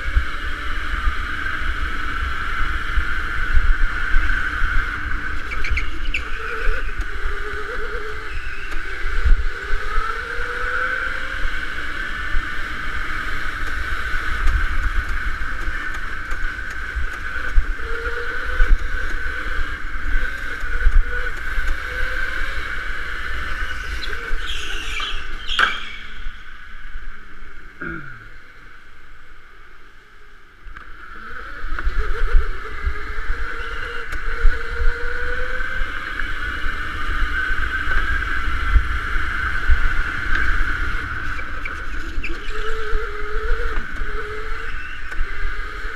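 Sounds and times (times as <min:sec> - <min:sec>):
electric go-kart motor whining: 0:00.0 - 0:27.0, 0:30.7 - 0:45.9.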